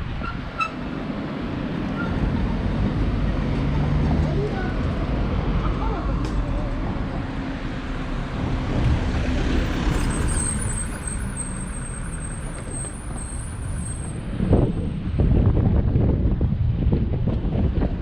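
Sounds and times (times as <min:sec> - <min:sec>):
passing vehicles: 0:00.0 - 0:18.0
road noise: 0:00.0 - 0:18.0.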